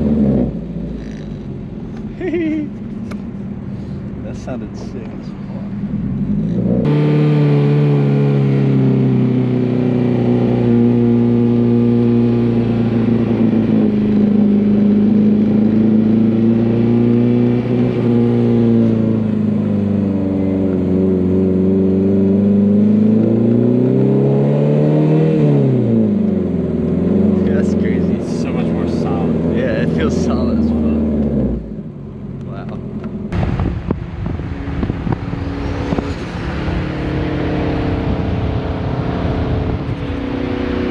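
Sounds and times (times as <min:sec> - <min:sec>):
car engine revving while driving: 0:00.0 - 0:02.1, 0:04.4 - 0:40.9.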